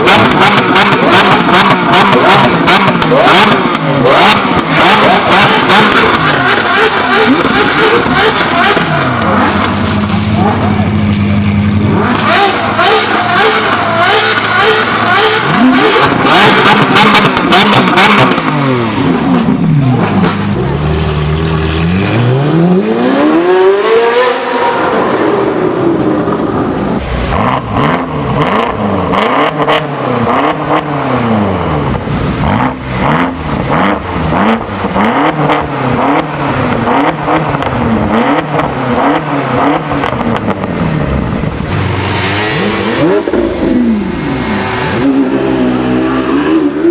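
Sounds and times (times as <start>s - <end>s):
car engine revving hard: 0.0s - 46.9s.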